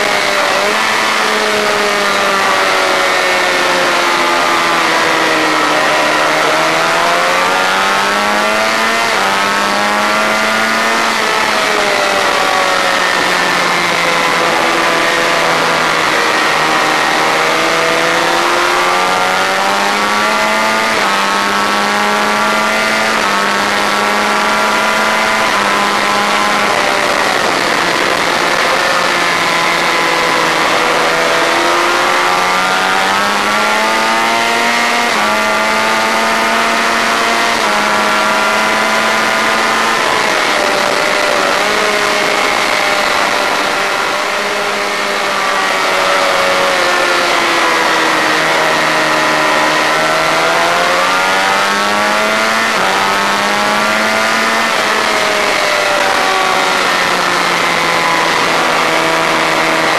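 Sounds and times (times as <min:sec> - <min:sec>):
motorcycle engine at high revs: 0:00.0 - 0:59.9
wind noise: 0:00.0 - 0:59.9.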